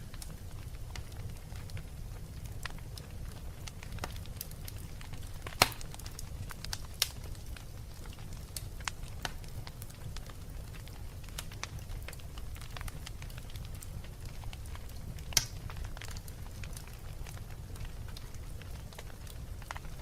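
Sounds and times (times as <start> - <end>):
fire rumbling: 0.0 - 20.0
wood fire crackling and popping: 0.0 - 20.0.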